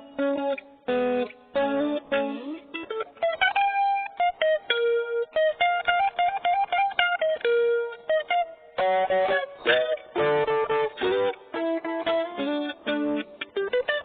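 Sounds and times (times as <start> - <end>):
guitar picking single notes: 0.0 - 14.0.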